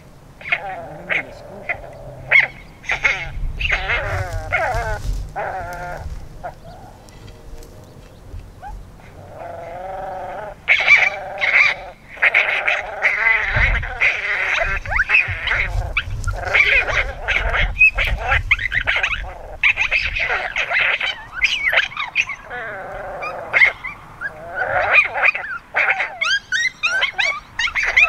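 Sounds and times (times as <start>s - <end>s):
coyote yips and howls: 0.0s - 7.3s, 8.6s - 28.0s
wind rumbling on microphone: 0.0s - 28.0s.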